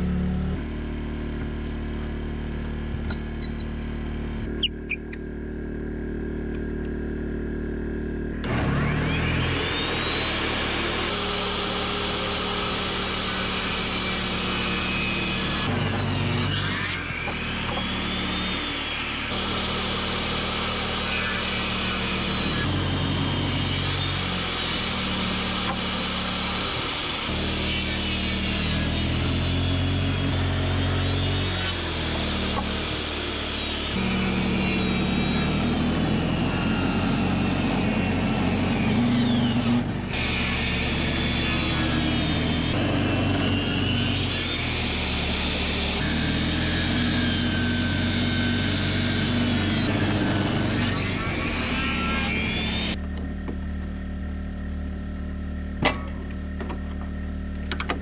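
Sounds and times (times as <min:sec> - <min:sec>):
table saw whine cutting wood: 0:00.0 - 0:53.3.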